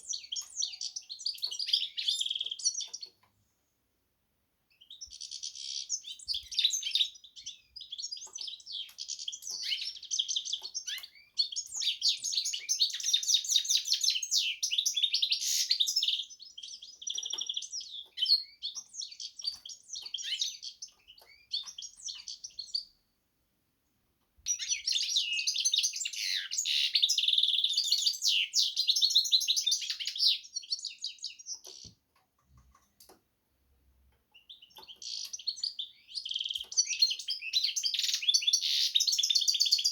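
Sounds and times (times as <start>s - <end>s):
bird singing trilling song: 0.0s - 3.3s, 4.7s - 23.1s, 24.4s - 32.0s, 34.2s - 39.9s.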